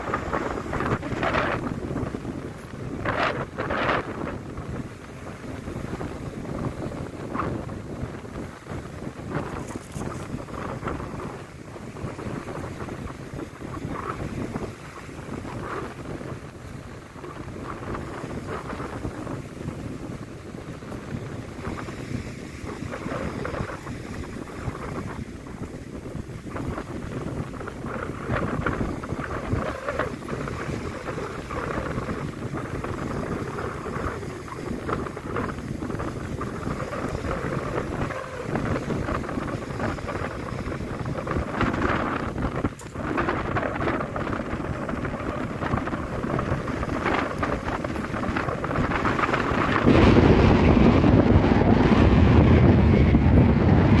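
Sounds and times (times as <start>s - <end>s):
sea rushing: 0.0s - 54.0s
wind buffeting microphone: 0.0s - 54.0s.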